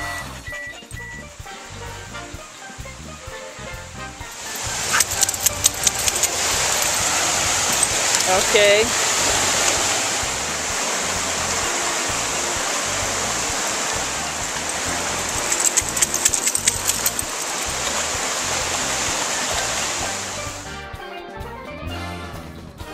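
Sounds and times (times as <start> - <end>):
creek water running over rocks: 0.3 - 20.7
water splashes: 1.4 - 20.7.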